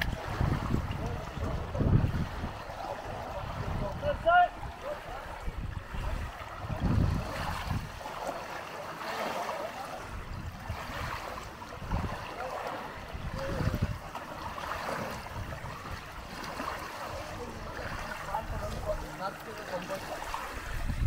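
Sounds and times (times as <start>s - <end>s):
wind buffeting microphone: 0.0s - 8.4s, 9.8s - 21.0s
water lapping and splashing: 0.0s - 21.0s.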